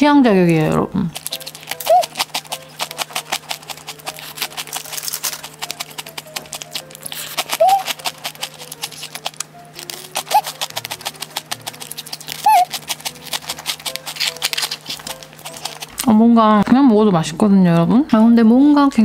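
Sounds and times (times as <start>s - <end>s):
crunching biscuits: 0.6s - 16.1s.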